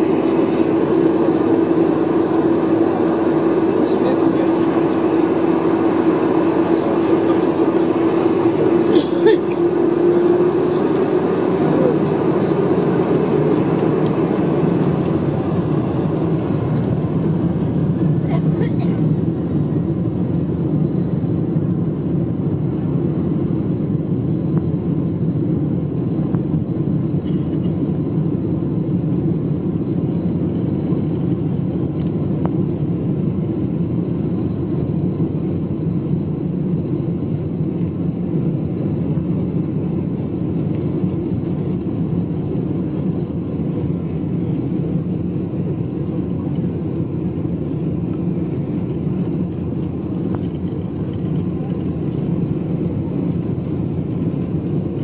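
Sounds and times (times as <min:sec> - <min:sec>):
airplane engines rumbling in cabin: 0:00.0 - 0:55.0.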